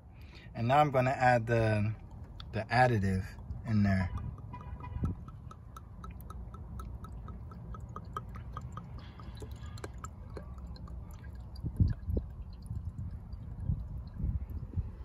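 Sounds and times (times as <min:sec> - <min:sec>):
oil glugging from bottle: 0:02.0 - 0:15.0.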